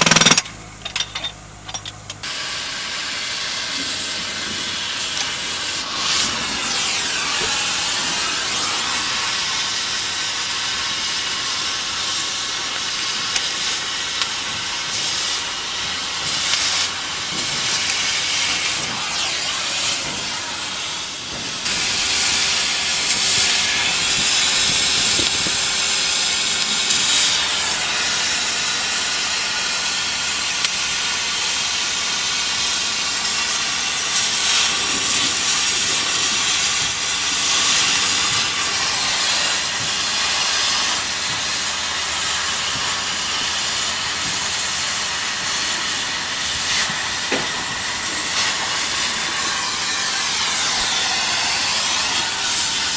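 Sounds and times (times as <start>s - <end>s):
cutting torch hissing: 2.2s - 52.9s.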